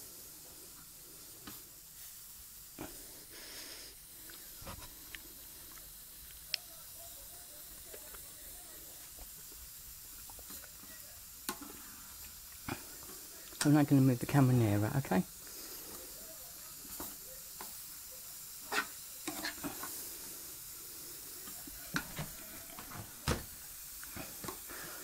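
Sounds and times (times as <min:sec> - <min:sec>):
meat frying in oil: 0:00.0 - 0:25.0.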